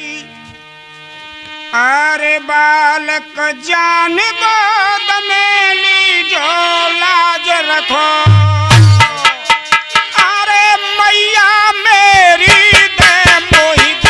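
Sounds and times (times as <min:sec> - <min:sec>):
harmonium chords: 0:00.0 - 0:14.0
man singing folk song: 0:01.8 - 0:09.5, 0:10.2 - 0:14.0.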